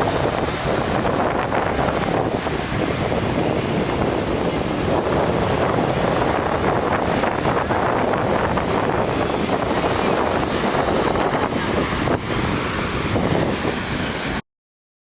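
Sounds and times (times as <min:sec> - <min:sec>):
surf washing on beach: 0:00.0 - 0:14.4
wind buffeting microphone: 0:00.0 - 0:14.4.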